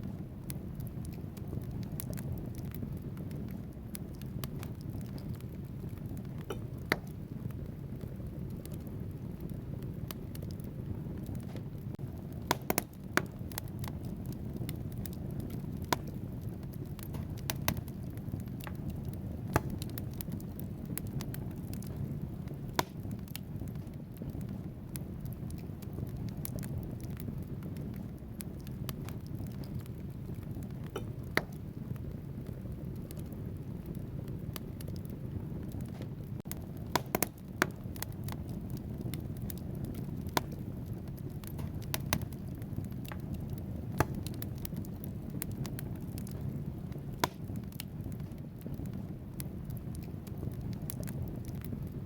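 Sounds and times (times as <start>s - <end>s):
fire flames rumbling: 0.0s - 52.0s
logs crackling and popping: 0.0s - 52.0s.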